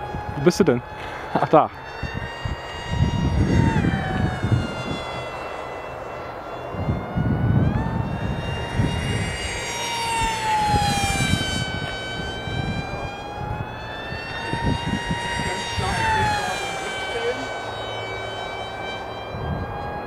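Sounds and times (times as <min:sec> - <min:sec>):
model jet engine whine: 0:00.0 - 0:20.0
wind rumble on microphone: 0:00.0 - 0:20.0.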